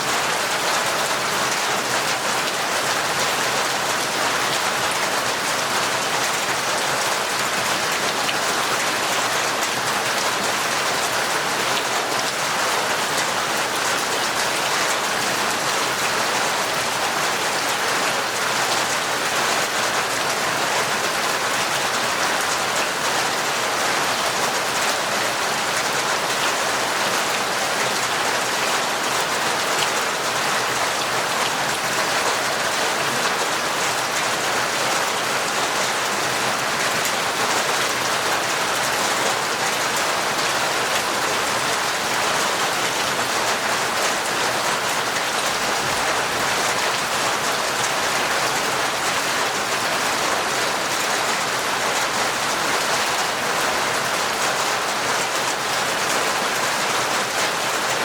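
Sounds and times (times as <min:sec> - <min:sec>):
torrential rain: 0:00.0 - 0:58.0.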